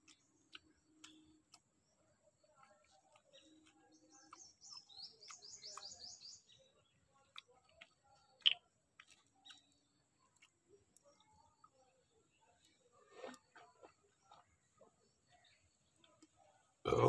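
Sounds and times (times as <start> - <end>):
small bird chirping: 0.0 - 16.8.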